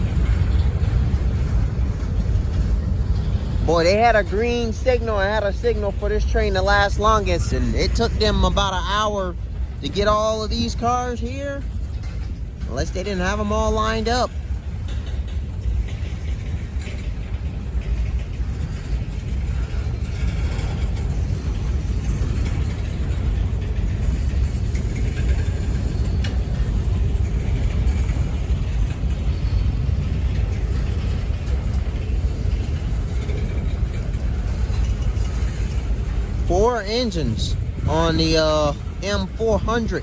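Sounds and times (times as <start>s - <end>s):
freight cars rolling past: 0.0s - 40.0s.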